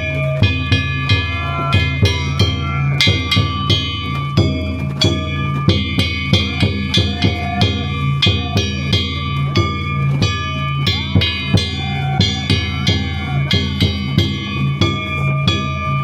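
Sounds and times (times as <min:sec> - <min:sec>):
small metal gongs ringing: 0:00.0 - 0:16.0
taiko drum beating: 0:00.0 - 0:16.0.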